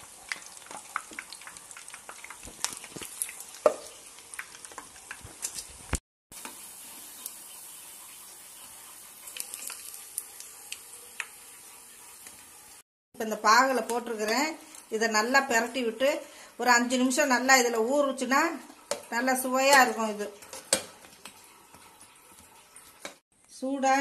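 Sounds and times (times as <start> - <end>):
oil sizzling deep-frying: 0.0 - 23.2.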